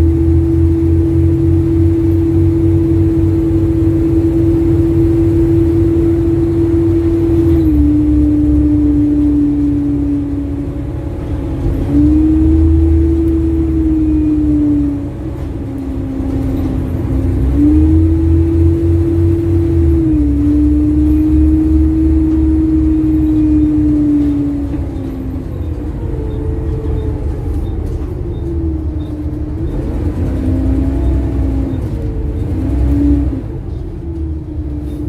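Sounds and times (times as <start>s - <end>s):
bus engine rumble and whine: 0.0s - 35.0s.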